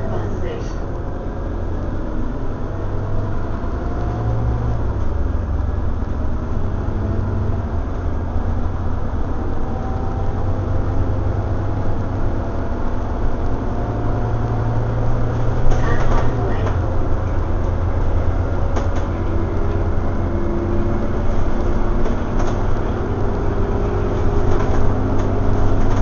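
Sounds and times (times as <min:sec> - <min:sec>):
bus diesel engine drone: 0:00.0 - 0:26.0
road and body noise: 0:00.0 - 0:26.0.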